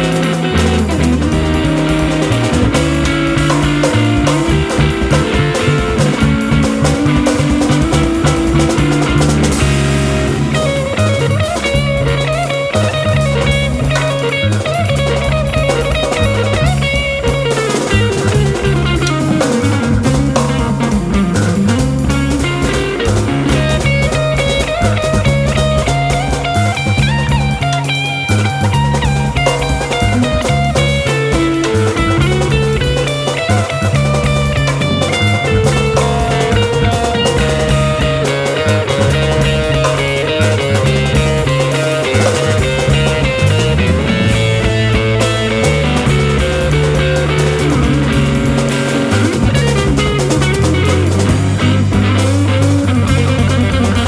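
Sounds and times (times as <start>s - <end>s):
drum kit: 0.0s - 54.0s
electric bass: 0.0s - 54.0s
electric guitar lead lines: 0.0s - 54.0s.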